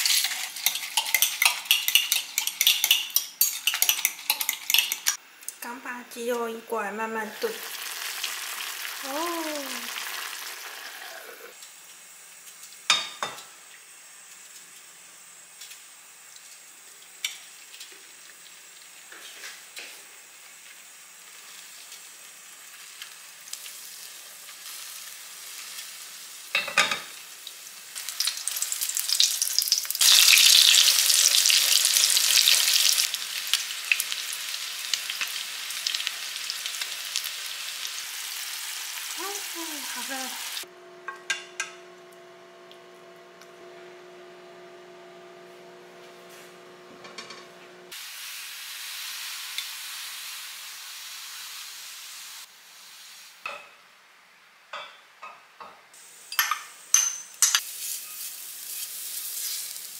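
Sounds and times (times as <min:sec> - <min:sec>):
eggs sizzling in a pan: 0:00.0 - 0:43.7, 0:44.9 - 0:53.8, 0:56.0 - 0:59.9.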